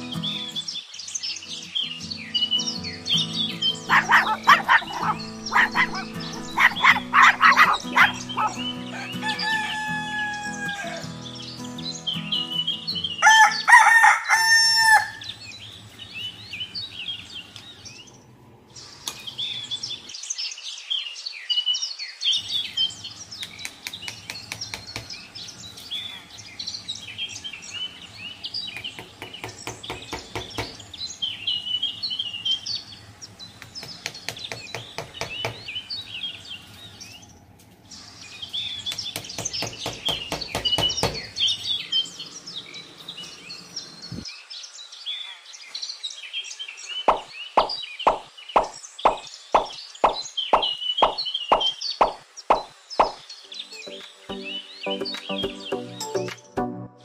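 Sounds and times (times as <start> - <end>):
small birds chirping: 0.0 - 56.6.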